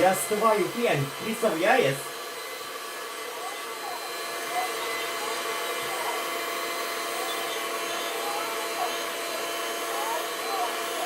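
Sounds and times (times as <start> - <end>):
hot-air gun whirring hiss: 0.0 - 11.0.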